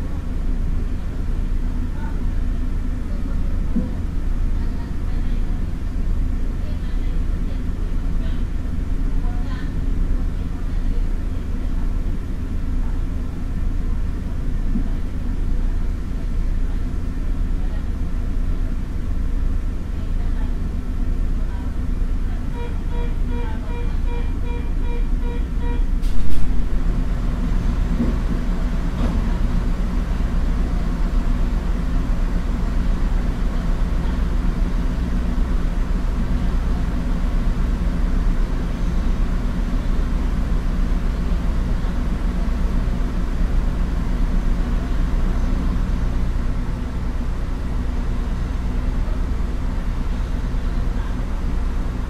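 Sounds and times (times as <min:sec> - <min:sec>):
diesel railcar engine idling: 0:00.0 - 0:52.0.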